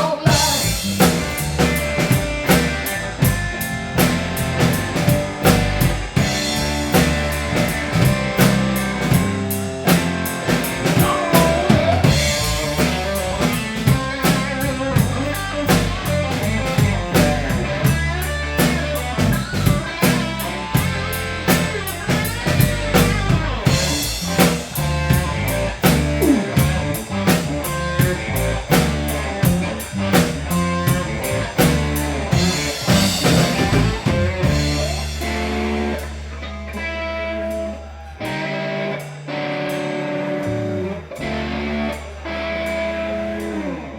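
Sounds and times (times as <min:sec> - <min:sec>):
bass line: 0:00.0 - 0:43.9
drum kit beat with rimshots: 0:00.0 - 0:43.9
guitar lead with bent notes: 0:00.0 - 0:43.9.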